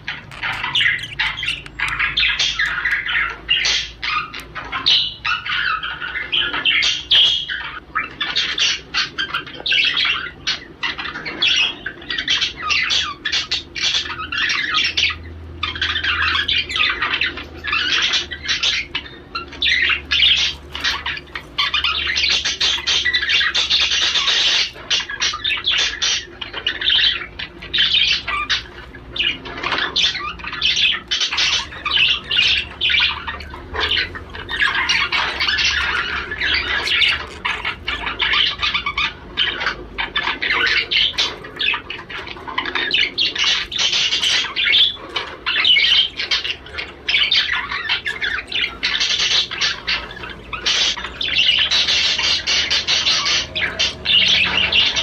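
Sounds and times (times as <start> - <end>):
budgerigar warbling and chattering: 0.0 - 55.0.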